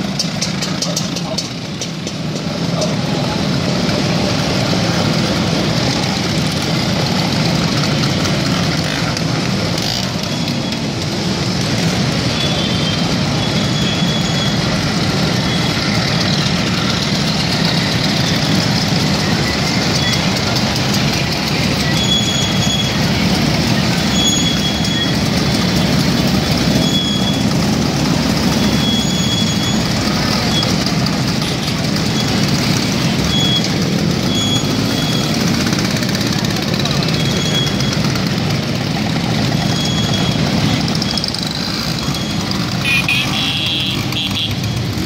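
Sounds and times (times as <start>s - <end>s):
scooter engines riding past: 0.0s - 45.0s.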